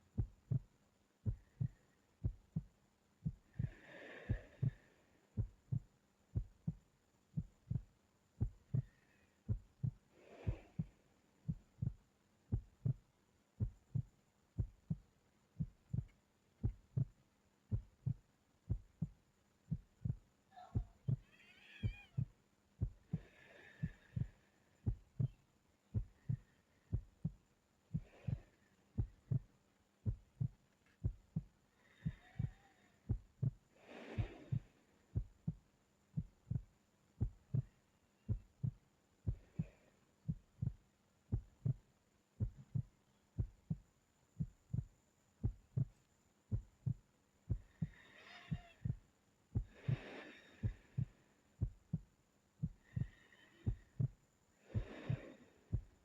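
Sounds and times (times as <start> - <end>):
heartbeat thumps: 0.0 - 56.0
soft sleeping breathing: 0.0 - 56.0.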